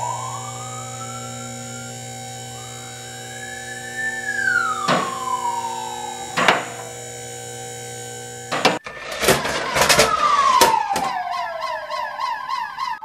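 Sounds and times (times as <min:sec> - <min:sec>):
fire engine siren: 0:00.0 - 0:13.0
steady electronic drone: 0:00.0 - 0:13.0.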